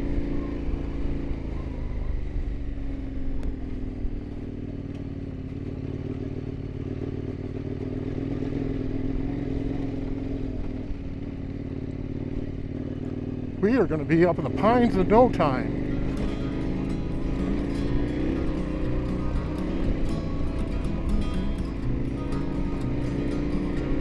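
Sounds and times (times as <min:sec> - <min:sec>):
motorcycle engine cruising: 0:00.0 - 0:24.0.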